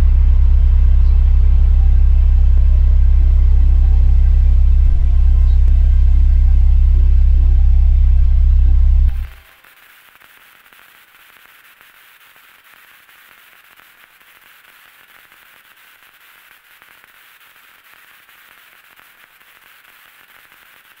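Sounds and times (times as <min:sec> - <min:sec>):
crackling static: 0:00.0 - 0:21.0.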